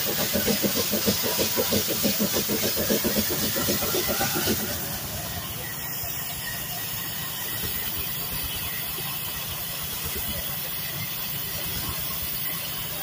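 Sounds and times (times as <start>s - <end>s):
steam engine low rumble: 0.0s - 13.0s
steam hissing: 0.0s - 13.0s.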